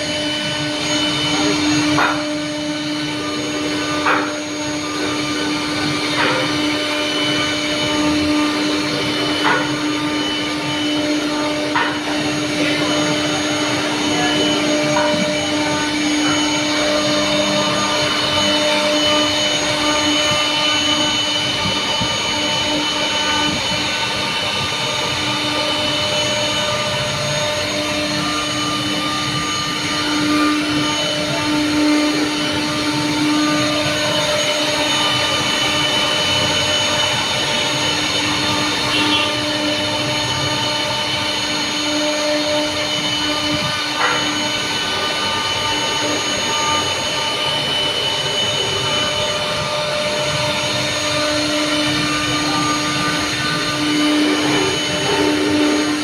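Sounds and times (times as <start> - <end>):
power tool motor humming: 0.0 - 56.0.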